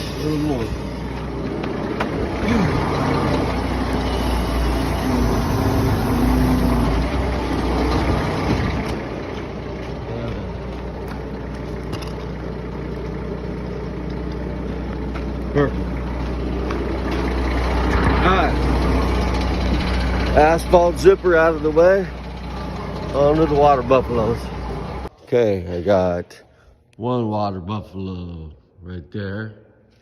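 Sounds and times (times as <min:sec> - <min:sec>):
diesel engine running: 0:00.0 - 0:25.1
hydraulics raising machine: 0:00.0 - 0:25.1.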